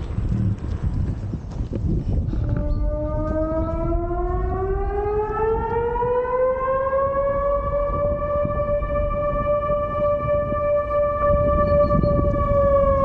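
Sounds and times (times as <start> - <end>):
low rumble: 0.0 - 13.0
civil defence siren wailing: 1.9 - 13.0.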